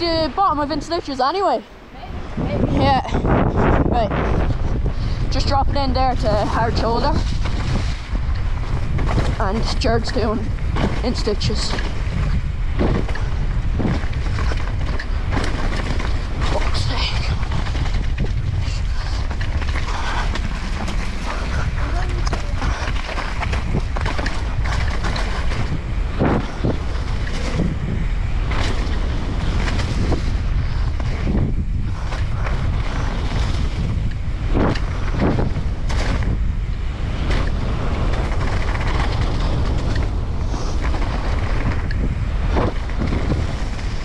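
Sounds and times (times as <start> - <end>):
wind buffeting microphone: 0.0 - 44.0
bike knocking and rattling: 2.7 - 44.0.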